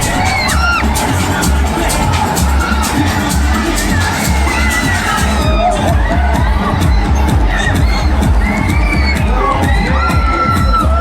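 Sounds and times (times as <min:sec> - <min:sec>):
fairground ride music: 0:00.0 - 0:11.0
riders screaming and whooping: 0:00.0 - 0:11.0.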